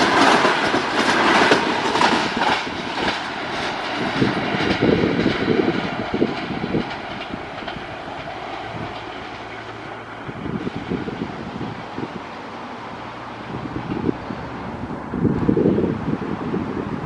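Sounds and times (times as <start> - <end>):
train wheels clattering over rails: 0.0 - 14.7.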